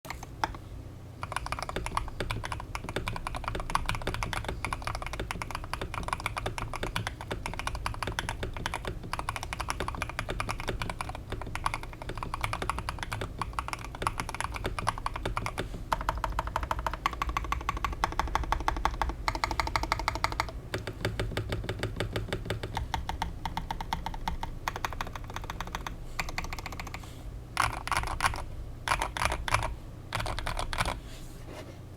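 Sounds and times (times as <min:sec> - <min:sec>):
mechanical keyboard typing: 0:00.1 - 0:00.6, 0:01.2 - 0:27.0, 0:27.6 - 0:31.0.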